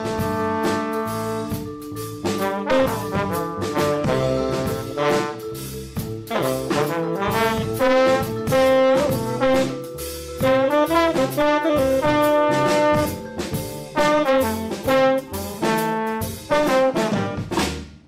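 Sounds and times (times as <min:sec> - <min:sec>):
vibraphone: 0:00.0 - 0:17.3
trombone and saxophone: 0:00.0 - 0:17.8
upright bass: 0:00.0 - 0:17.8
drums and cymbals: 0:00.0 - 0:18.0.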